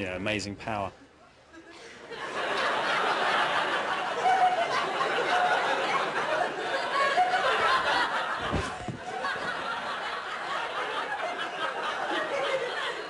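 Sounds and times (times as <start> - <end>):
audience laughing: 1.5 - 13.0.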